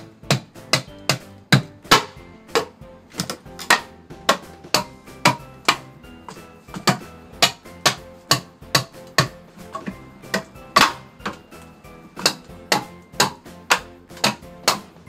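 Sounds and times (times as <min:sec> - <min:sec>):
mallet knocking on hatchet: 0:00.0 - 0:11.4, 0:12.2 - 0:15.0.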